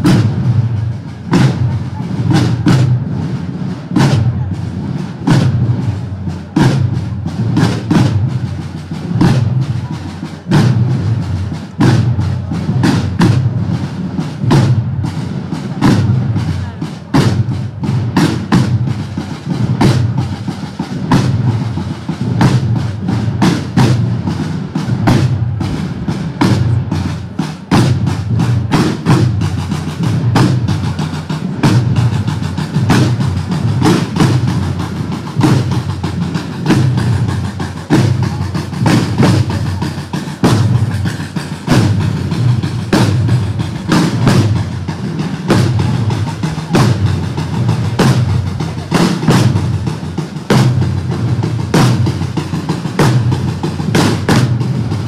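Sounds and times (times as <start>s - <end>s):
side drums playing march rhythm: 0.0s - 55.0s.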